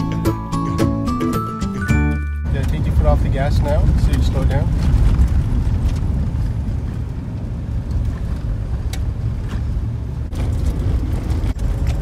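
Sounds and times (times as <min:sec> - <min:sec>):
car engine and tyres rumble: 0:00.0 - 0:12.0.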